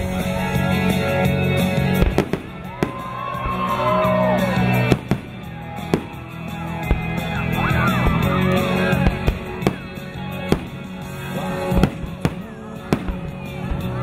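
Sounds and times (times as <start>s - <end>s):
music playing: 0.0s - 14.0s
fireworks bangs: 1.8s - 14.0s.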